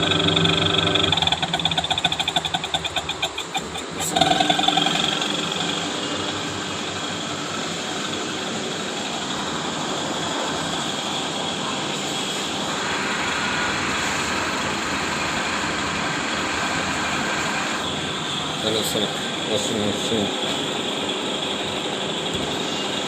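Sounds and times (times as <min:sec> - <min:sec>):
washing machine whirring: 0:00.0 - 0:23.0.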